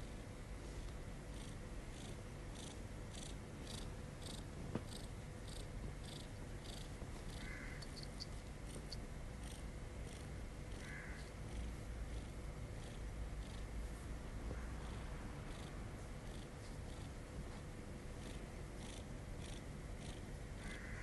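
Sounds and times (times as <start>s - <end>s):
kitten purring: 0.0s - 21.0s.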